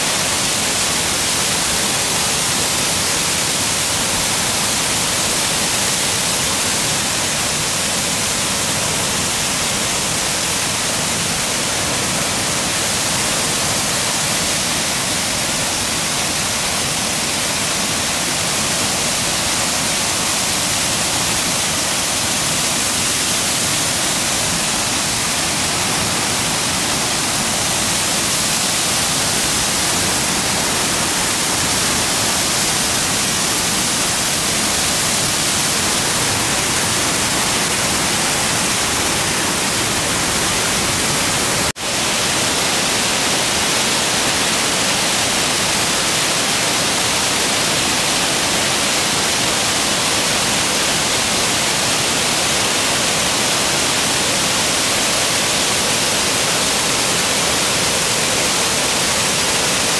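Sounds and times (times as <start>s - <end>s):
waterfall rushing into a pool: 0.0s - 59.9s.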